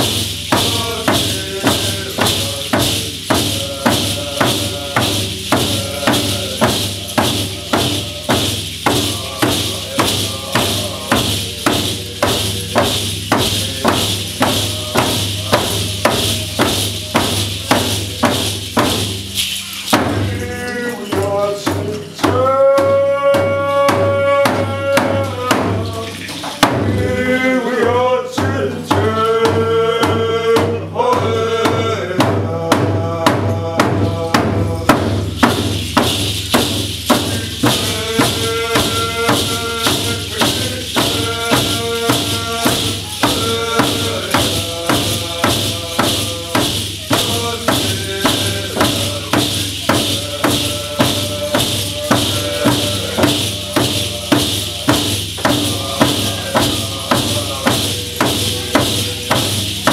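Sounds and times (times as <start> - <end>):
group of voices singing: 0.0 - 59.9
rattle shaking: 0.0 - 59.9
steady drum beat: 0.0 - 59.9.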